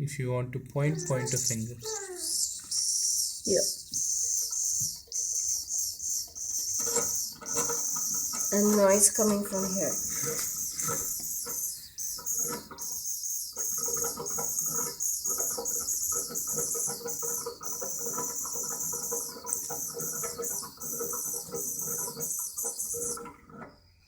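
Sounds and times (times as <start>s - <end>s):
radiator valve hissing: 0.8s - 24.0s.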